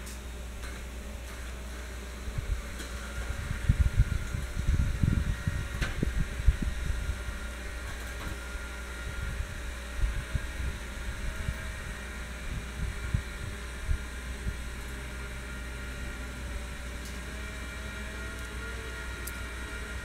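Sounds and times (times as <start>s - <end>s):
electric winch humming: 0.0s - 20.0s
wind gusting on microphone: 2.1s - 20.0s.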